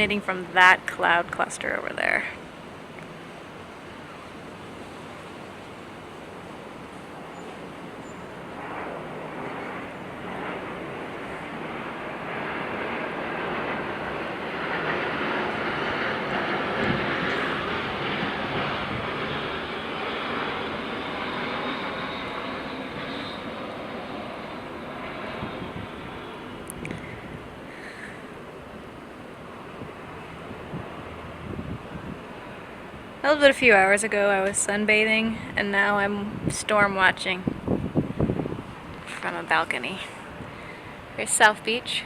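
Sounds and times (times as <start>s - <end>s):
airplane passing overhead: 0.0s - 42.0s.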